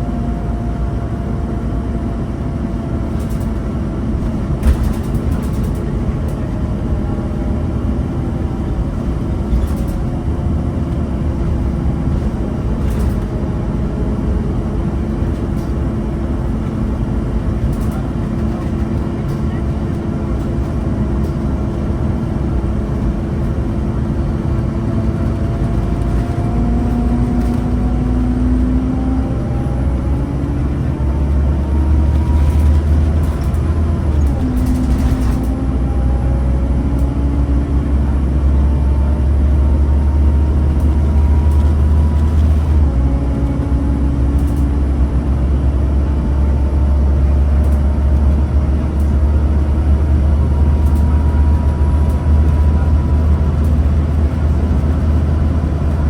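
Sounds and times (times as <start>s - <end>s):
bus diesel engine under load: 0.0s - 56.0s.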